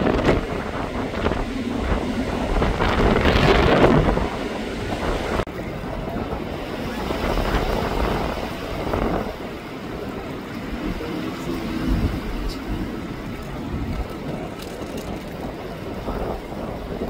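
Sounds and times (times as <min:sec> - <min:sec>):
distant jet airliner roar: 0:00.0 - 0:17.0
wind buffeting microphone: 0:00.0 - 0:17.0.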